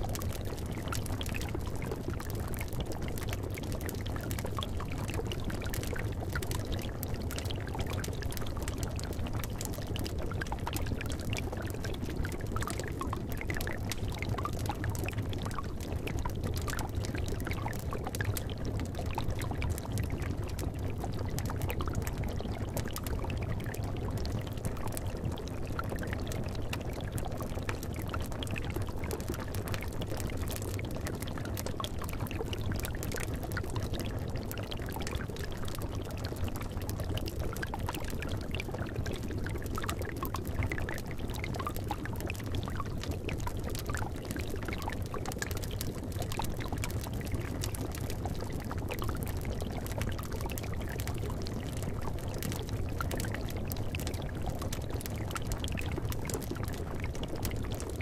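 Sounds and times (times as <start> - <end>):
liquid bubbling in a cauldron: 0.0 - 58.0.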